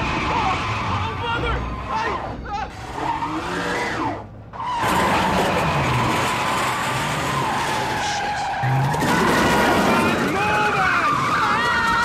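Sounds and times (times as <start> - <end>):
car engine racing: 0.0 - 12.0
tyres skidding: 0.0 - 12.0.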